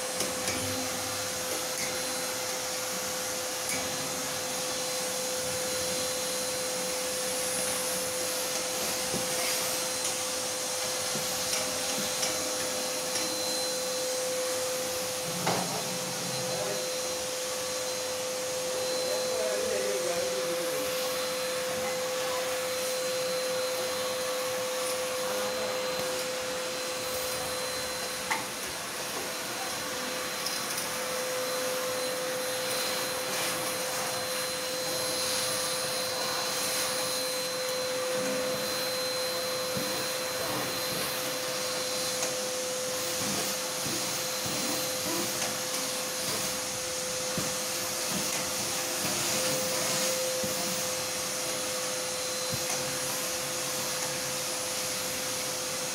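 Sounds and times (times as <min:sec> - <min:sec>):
vacuum cleaner running: 0:00.0 - 0:55.9.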